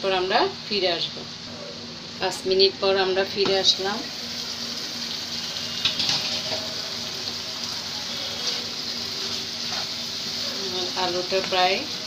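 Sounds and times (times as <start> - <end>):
sauce sizzling in frying pan: 0.1 - 12.0.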